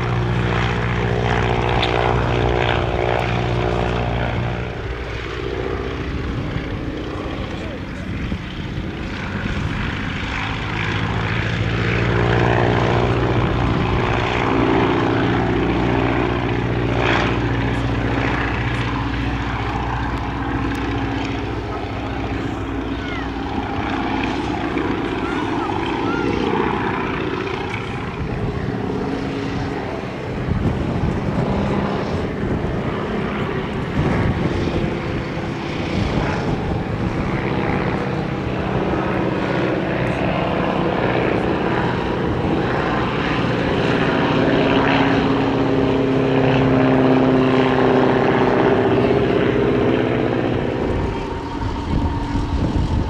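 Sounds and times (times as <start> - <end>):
propeller aircraft engine droning: 0.0 - 53.0.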